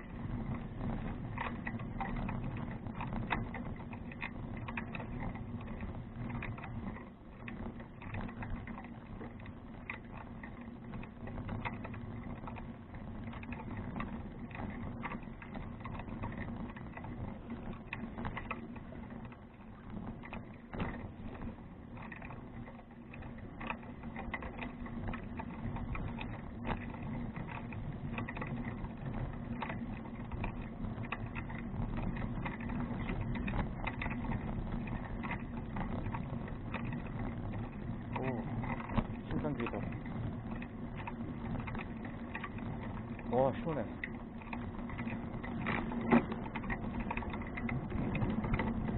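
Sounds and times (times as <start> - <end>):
rumble of tyres and wind: 0.0 - 48.9
small rattling clicks: 0.0 - 48.9.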